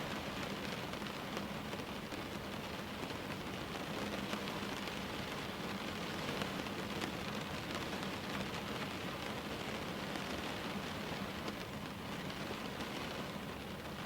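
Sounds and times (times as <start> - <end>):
raindrops ticking on window: 0.0 - 14.0
steady rainfall: 0.0 - 14.0.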